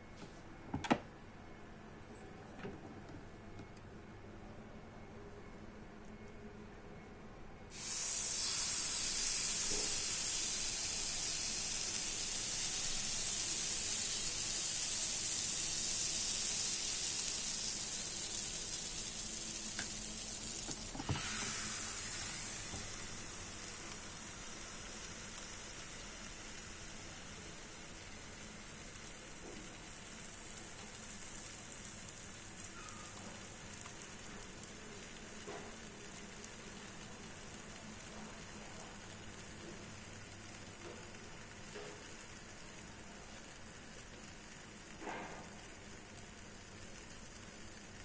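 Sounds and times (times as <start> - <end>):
waffle batter sizzling: 7.7 - 48.0.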